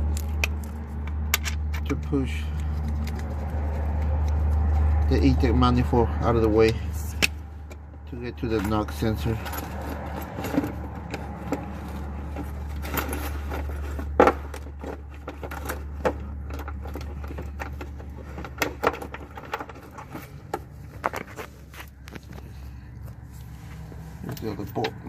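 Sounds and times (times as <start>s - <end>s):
hand tools clicking and scraping: 0.0s - 25.0s.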